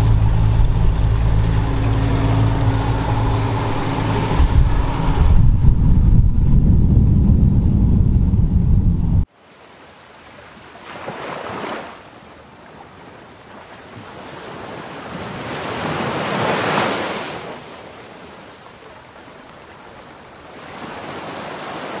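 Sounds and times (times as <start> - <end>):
ocean waves washing: 0.0 - 22.0
wind: 0.0 - 22.0.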